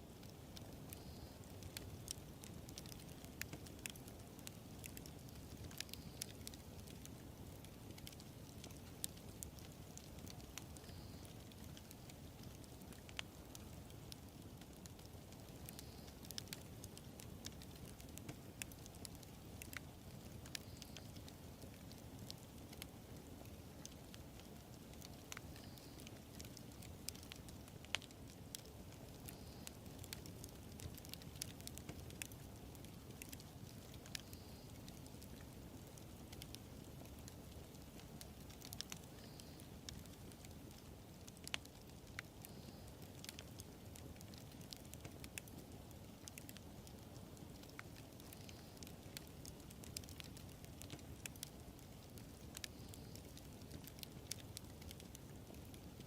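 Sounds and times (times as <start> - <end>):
fire crackles and pops: 0.0 - 56.0.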